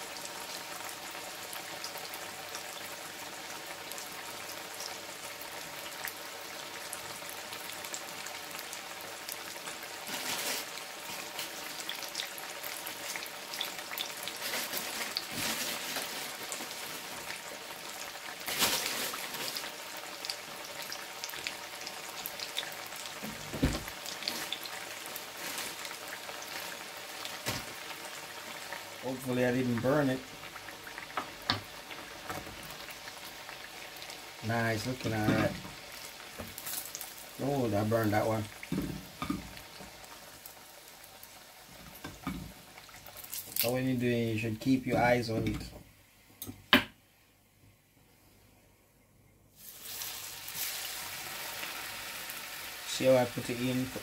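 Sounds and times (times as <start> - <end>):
food frying in hot oil: 0.0 - 45.8, 49.6 - 54.0.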